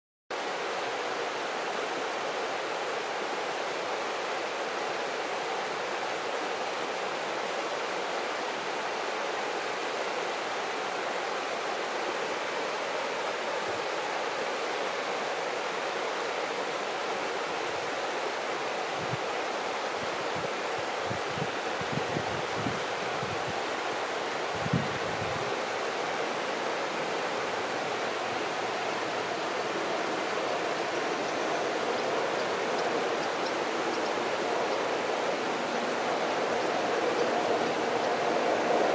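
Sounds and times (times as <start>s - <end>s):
river babbling over stones: 0.4s - 38.9s.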